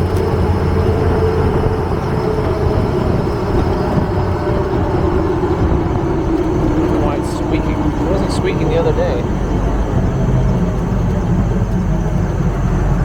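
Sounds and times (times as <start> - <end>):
diesel engine idling: 0.0 - 13.0
drive belt squeaking: 0.0 - 13.0.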